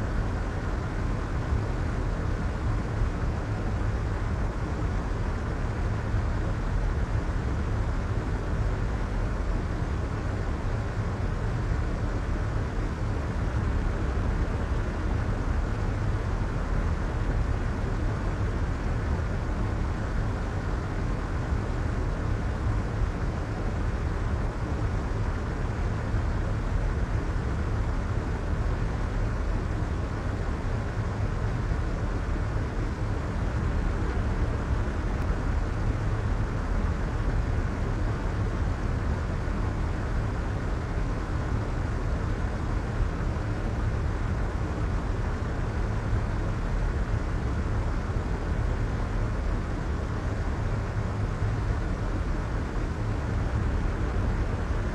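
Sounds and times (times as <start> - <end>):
soft white noise hiss: 0.0 - 54.9.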